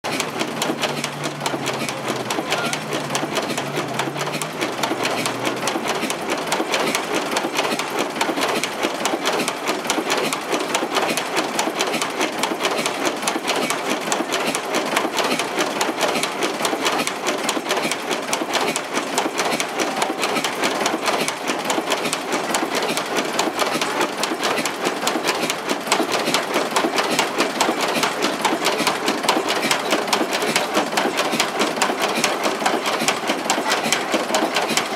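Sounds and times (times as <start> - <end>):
diesel engine clattering: 0.1 - 34.9.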